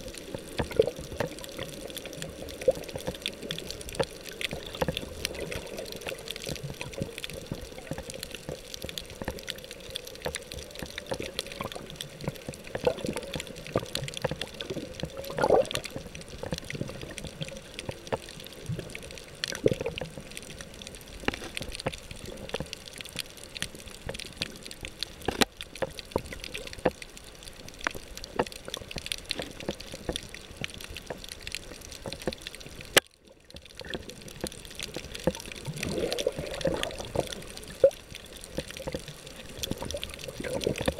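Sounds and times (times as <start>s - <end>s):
muffled water swirls: 0.0s - 40.9s
underwater hiss with tiny clicks: 0.0s - 40.9s.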